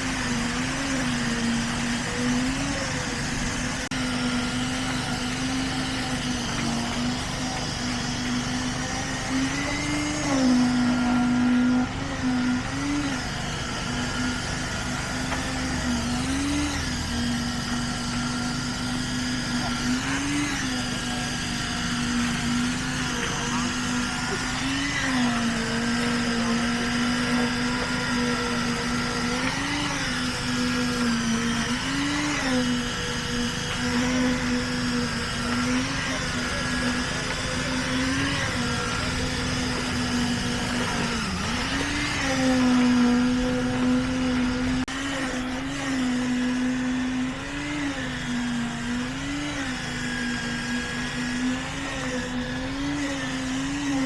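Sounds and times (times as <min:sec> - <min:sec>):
construction machinery engine drone: 0:00.0 - 0:54.0.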